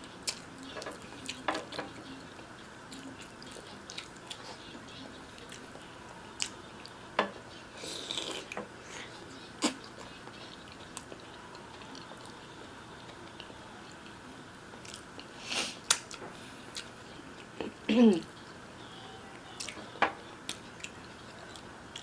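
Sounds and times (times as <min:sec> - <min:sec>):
quiet chewing: 0:00.0 - 0:18.6, 0:19.3 - 0:22.0.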